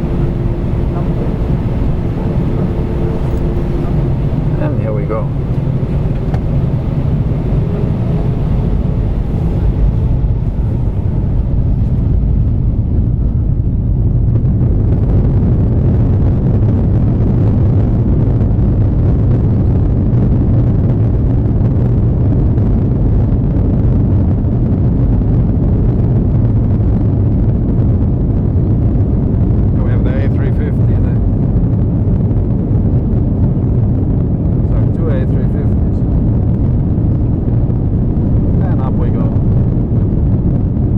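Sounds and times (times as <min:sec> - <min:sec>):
jet engine roar in cabin: 0:00.0 - 0:40.9
jet engine whine: 0:00.0 - 0:40.9.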